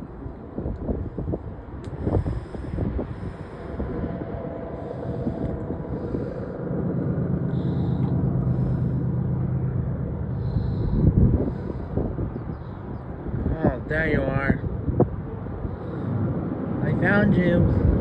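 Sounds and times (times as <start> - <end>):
vehicle engine rumble: 0.0 - 18.0
wind noise on microphone: 0.0 - 18.0.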